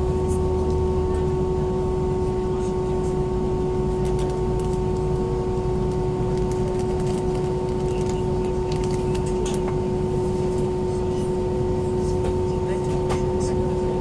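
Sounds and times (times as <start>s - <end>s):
cabin air-conditioning hum: 0.0s - 14.0s.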